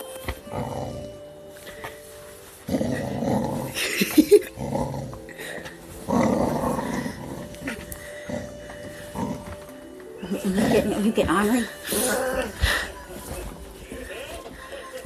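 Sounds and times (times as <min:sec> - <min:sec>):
dog play-growling: 0:00.2 - 0:14.6.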